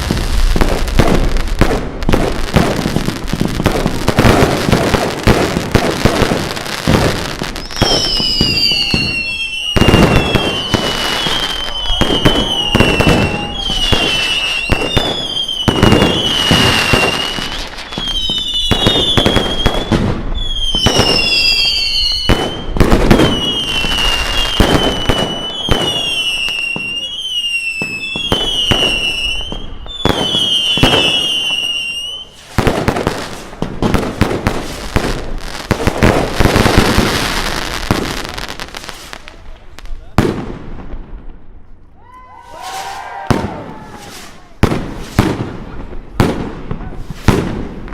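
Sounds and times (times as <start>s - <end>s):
whistling firework shots: 0.0s - 40.9s, 42.3s - 47.9s
firework bangs: 0.0s - 41.7s, 42.4s - 47.9s.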